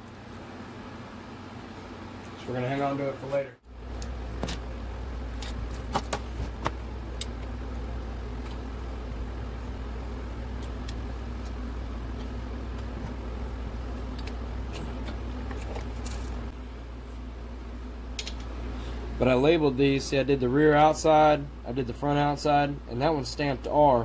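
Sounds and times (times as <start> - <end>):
workshop low hum: 0.0 - 24.0.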